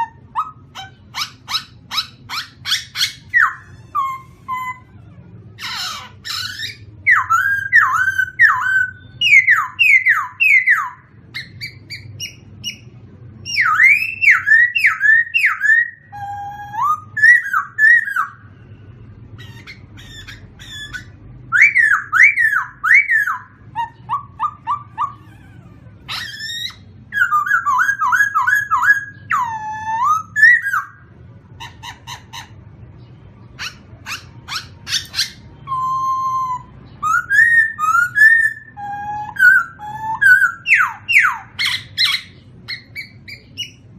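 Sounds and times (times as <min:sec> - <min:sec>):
faint low hum: 0:00.0 - 0:43.9
songbirds singing: 0:00.0 - 0:43.9.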